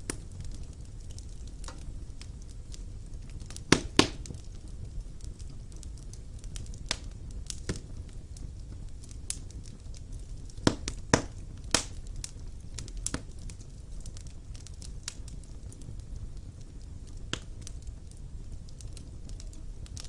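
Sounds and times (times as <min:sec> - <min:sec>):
fire crackling and popping: 0:00.0 - 0:20.0
fire flames rumbling: 0:00.0 - 0:20.0.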